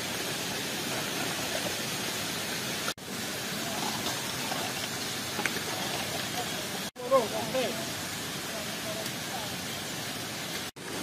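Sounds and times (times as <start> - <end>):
steady rain hiss: 0.0 - 11.0.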